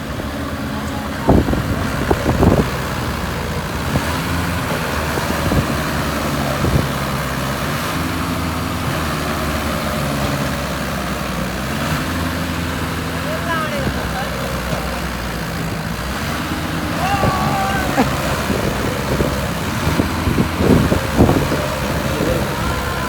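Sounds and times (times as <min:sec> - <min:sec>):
heavy vehicle engine idling: 0:00.0 - 0:23.0.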